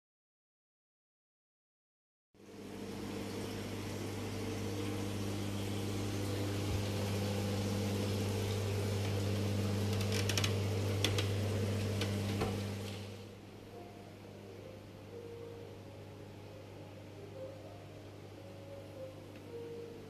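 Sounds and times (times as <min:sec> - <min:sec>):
aquarium pump hum: 0:02.4 - 0:20.0.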